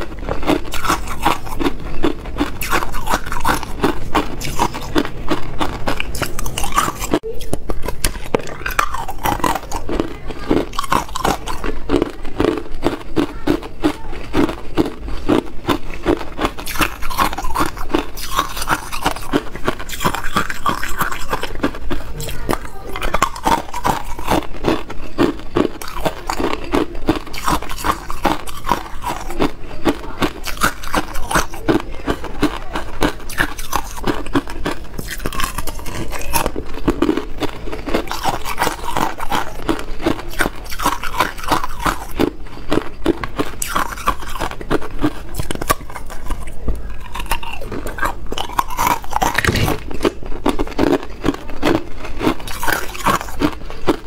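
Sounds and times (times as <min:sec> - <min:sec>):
ice cubes crunching: 0:00.0 - 0:54.0.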